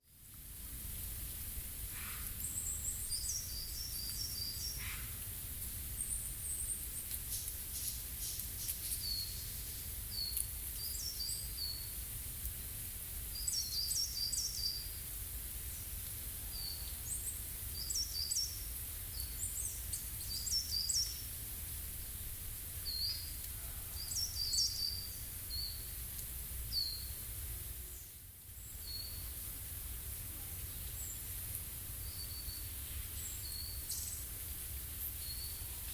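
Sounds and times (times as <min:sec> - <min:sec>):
steady background hiss: 0:00.0 - 0:35.9.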